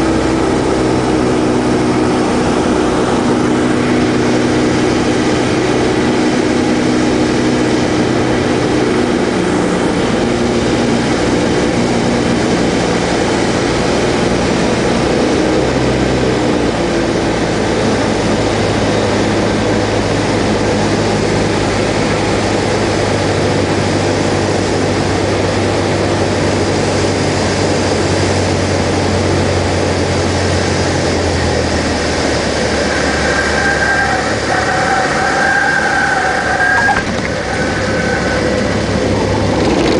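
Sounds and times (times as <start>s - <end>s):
rush of airflow: 0.0s - 33.6s, 36.2s - 39.9s
propeller engine droning: 0.0s - 39.9s.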